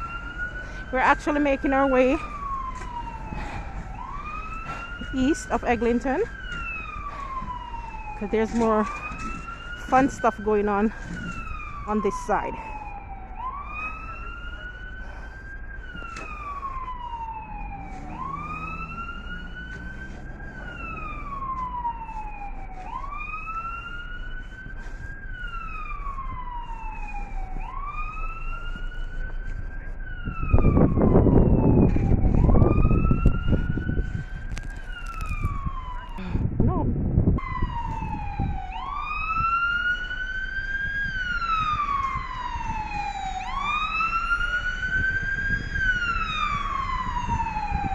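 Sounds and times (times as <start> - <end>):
emergency siren wailing: 0.0 - 47.9.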